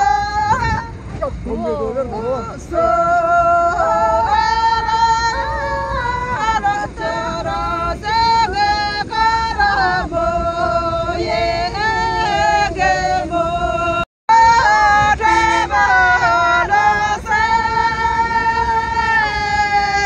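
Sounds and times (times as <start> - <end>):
low steady rumble: 0.0 - 20.0
woman singing: 0.0 - 20.0.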